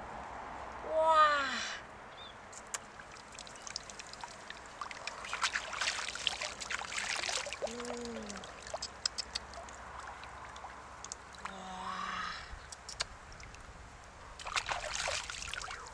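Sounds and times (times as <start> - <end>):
water splashing and trickling: 2.4 - 15.9.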